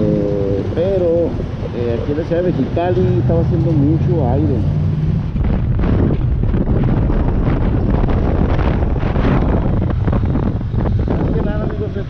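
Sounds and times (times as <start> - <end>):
rumbling wind on microphone: 0.0 - 12.0.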